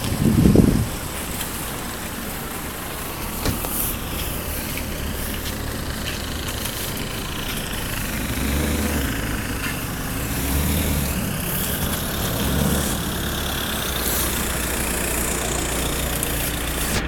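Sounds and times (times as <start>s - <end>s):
car engine at low speed: 0.0s - 17.0s.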